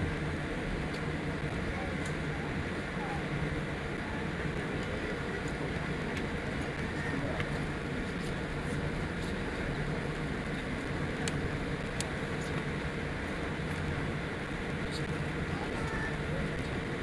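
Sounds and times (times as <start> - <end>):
jet engines at taxi thrust: 0.0 - 17.0.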